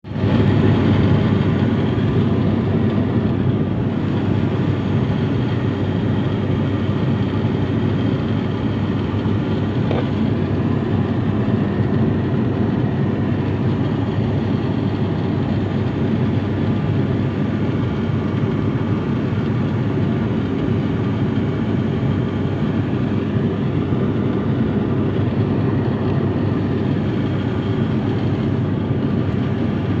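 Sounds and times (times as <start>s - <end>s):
aeroplane cabin drone: 0.0s - 30.0s.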